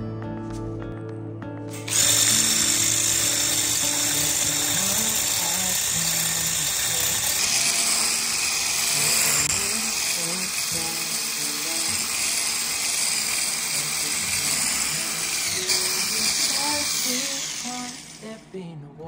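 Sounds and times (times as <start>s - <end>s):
electric whisk whirring: 1.7s - 18.4s.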